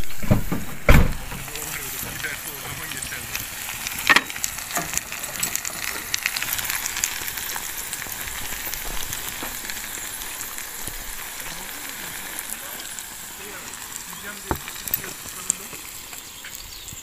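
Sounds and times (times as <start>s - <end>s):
eggs sizzling in frying pan: 0.0s - 17.0s.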